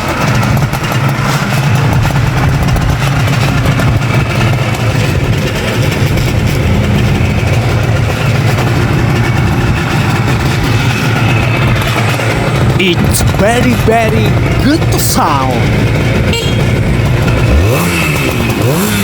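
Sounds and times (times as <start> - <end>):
two-stroke engine exhaust: 0.0 - 19.0.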